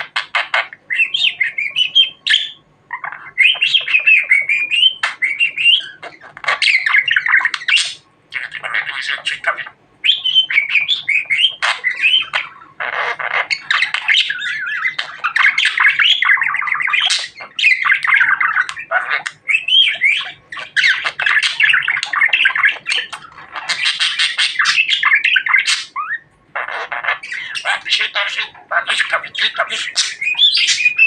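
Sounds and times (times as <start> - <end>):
budgerigar chattering and warbling: 0.0 - 31.0.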